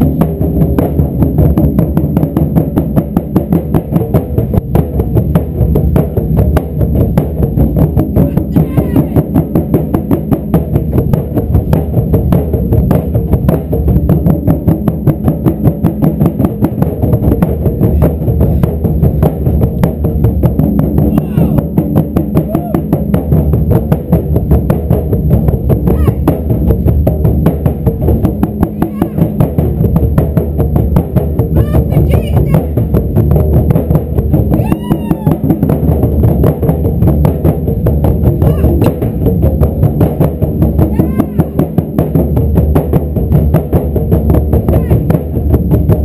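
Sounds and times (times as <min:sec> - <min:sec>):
taiko drums pounding: 0:00.0 - 0:46.0.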